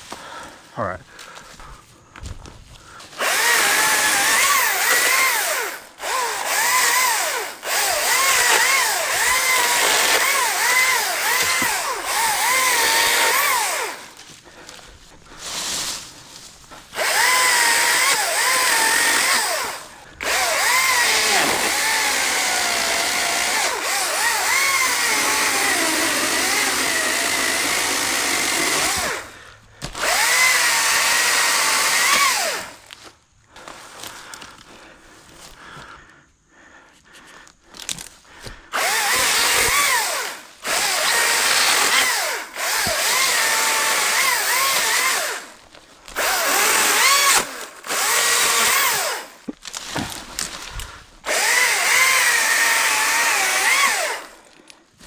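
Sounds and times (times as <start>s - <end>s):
chainsaw cutting wood: 3.1s - 34.1s, 37.8s - 55.0s.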